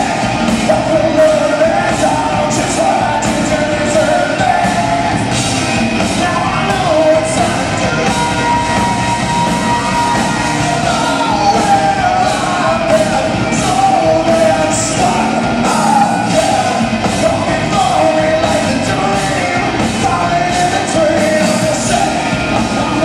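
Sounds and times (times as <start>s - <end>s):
distorted electric guitars: 0.0s - 23.0s
drums with cymbal hits: 0.0s - 23.0s
person singing lead vocal: 0.0s - 23.0s.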